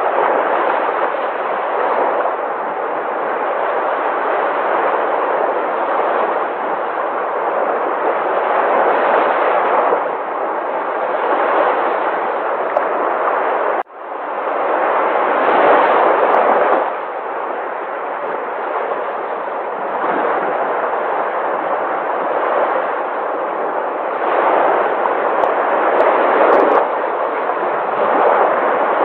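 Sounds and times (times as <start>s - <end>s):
sea waves breaking: 0.0s - 29.0s.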